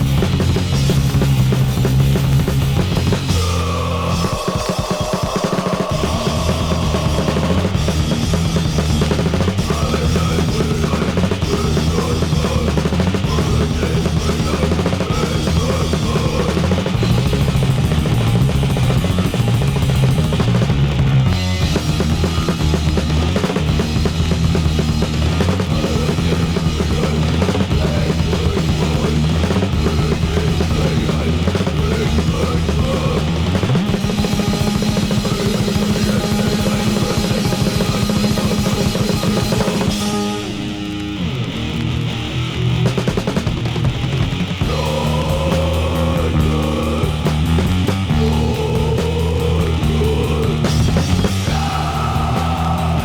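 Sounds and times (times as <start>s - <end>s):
fast punk rock band: 0.0s - 53.0s.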